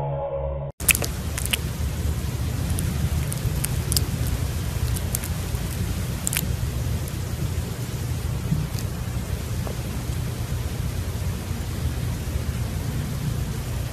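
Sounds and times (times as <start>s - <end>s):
low steady rumbling: 0.0s - 13.9s
faint hiss: 0.8s - 13.9s.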